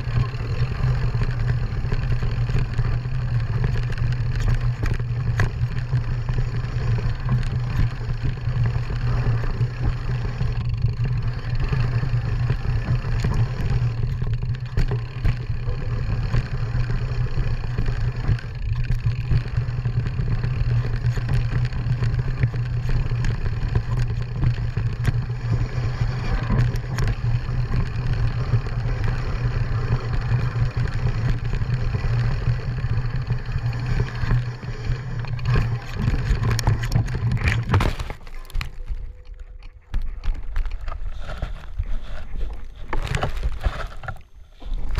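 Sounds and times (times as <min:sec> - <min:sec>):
off-road vehicle engine running: 0:00.0 - 0:44.9.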